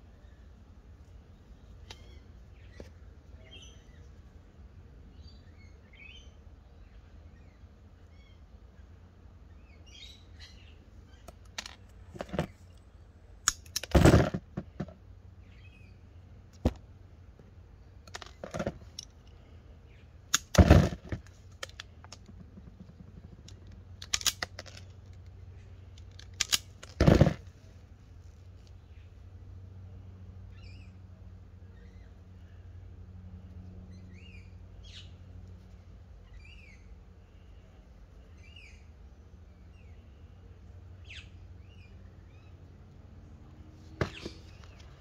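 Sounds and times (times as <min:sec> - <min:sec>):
faint birds chirping: 0:00.0 - 0:45.0.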